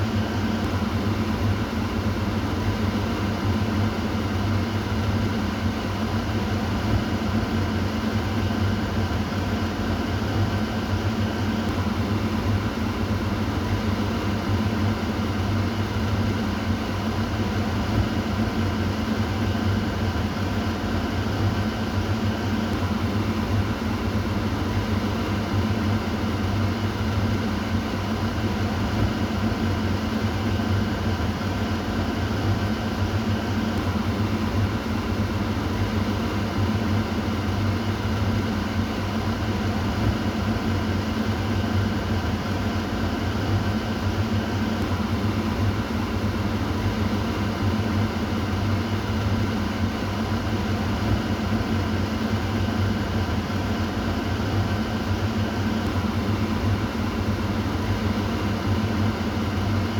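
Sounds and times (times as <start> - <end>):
kitchen exhaust fan running: 0.0 - 59.9.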